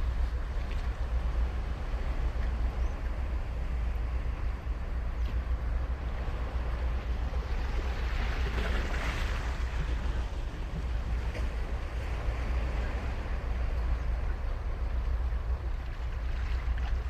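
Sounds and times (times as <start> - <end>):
ocean surf on sand: 0.0 - 17.0.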